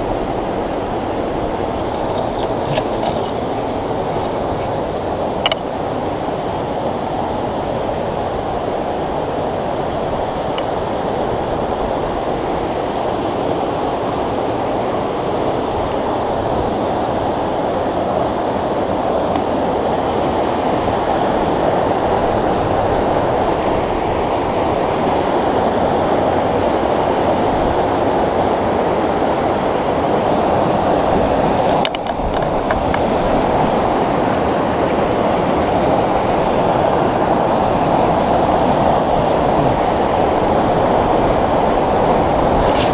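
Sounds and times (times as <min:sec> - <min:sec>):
stream rushing over boulders: 0:00.0 - 0:42.9.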